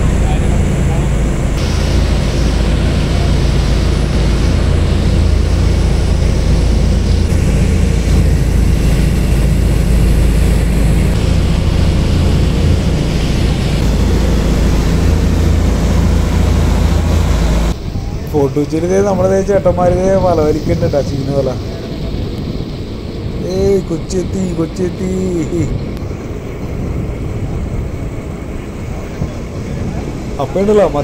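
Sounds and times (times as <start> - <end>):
boat engine rumbling: 0.0 - 31.0
water rushing along hull: 0.0 - 31.0
wind: 0.0 - 31.0.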